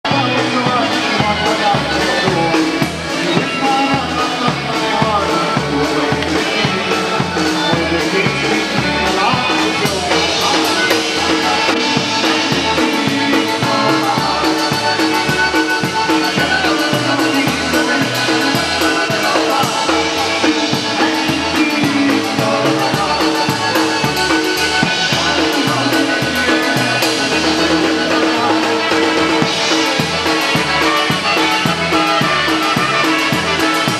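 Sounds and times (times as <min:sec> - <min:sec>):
polka band playing: 0:00.0 - 0:33.9
drum kit beat: 0:00.1 - 0:33.9.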